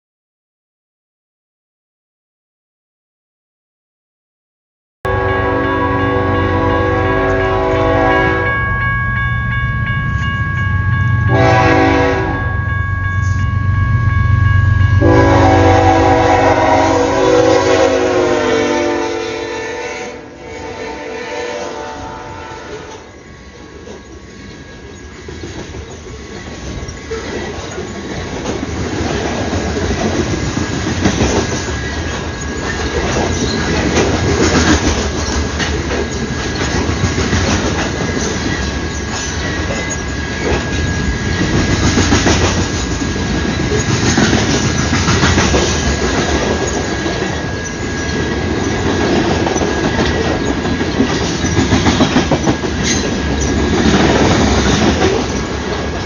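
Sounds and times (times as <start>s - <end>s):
train rumbling past: 5.1s - 56.0s.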